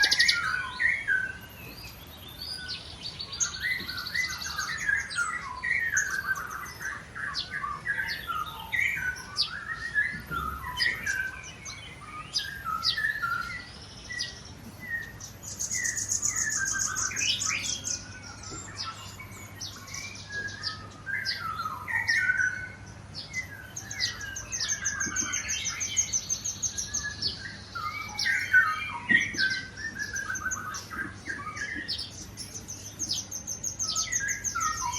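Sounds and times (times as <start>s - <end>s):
birds whistling: 0.0s - 34.9s.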